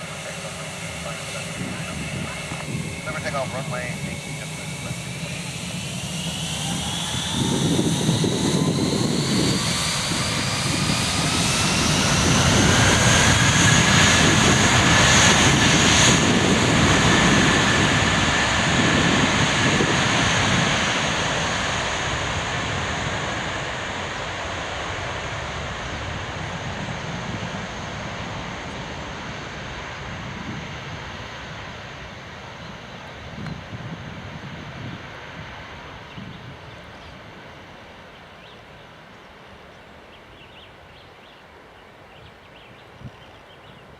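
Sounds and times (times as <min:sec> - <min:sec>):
jet airliner taking off: 0:00.0 - 0:40.0.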